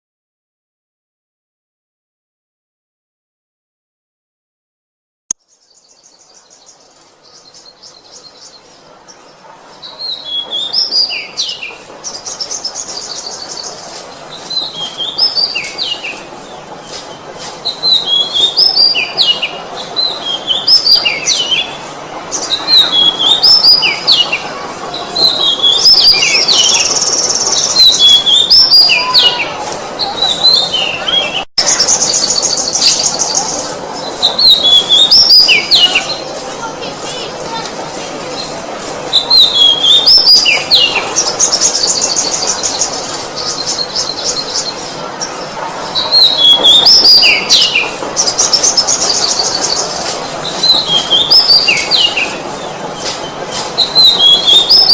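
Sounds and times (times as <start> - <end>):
songbird singing: 5.3 - 38.5, 39.1 - 54.9
steady background noise: 5.4 - 54.9.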